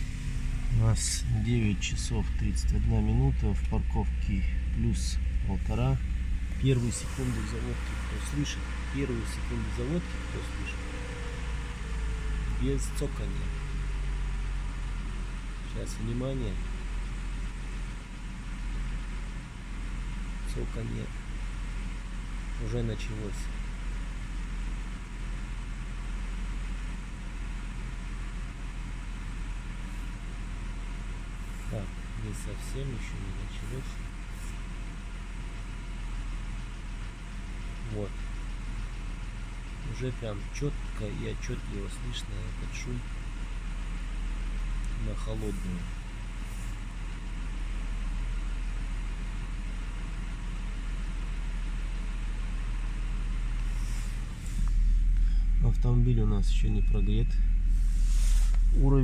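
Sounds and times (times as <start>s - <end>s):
car engine idling: 0.0s - 59.0s
engine ticking: 0.0s - 59.0s.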